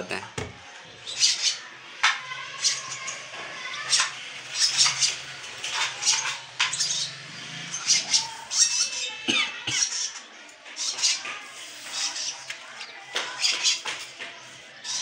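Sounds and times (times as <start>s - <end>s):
bird chicks squeaky chirps: 0.9s - 15.0s.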